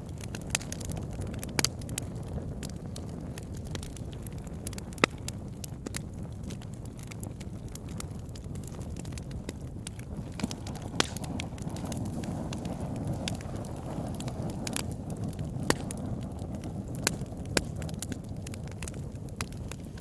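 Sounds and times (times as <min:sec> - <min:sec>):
campfire flames rumbling: 0:00.0 - 0:20.0
wood crackling and popping: 0:00.0 - 0:20.0.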